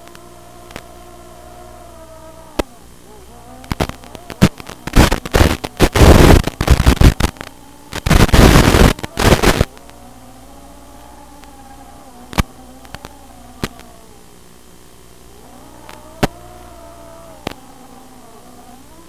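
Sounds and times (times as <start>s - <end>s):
harsh crackling noise bursts: 0.0s - 19.0s
quadcopter motors whining: 0.0s - 19.0s.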